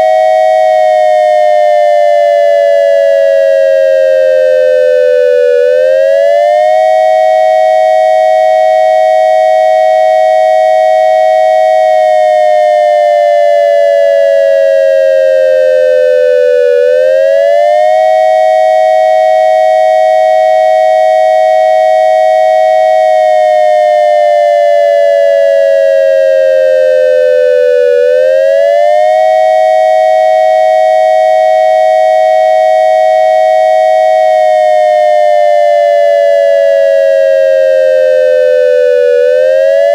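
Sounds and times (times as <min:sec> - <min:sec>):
dual-tone electronic siren: 0:00.0 - 0:39.9.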